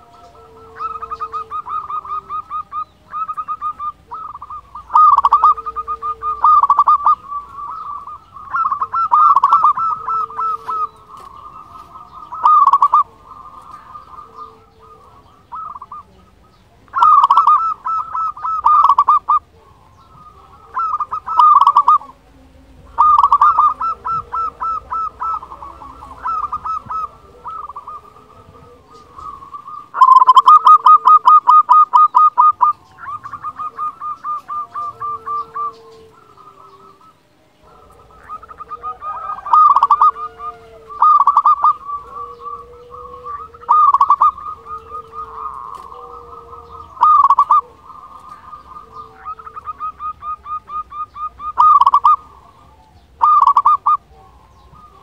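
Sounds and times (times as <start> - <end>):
dove cooing in staccato notes: 0.0 - 55.0.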